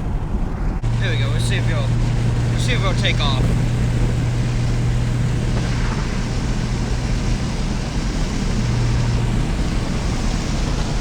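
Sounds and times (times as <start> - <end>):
car engine droning: 0.0 - 11.0
road and wind noise: 0.0 - 11.0.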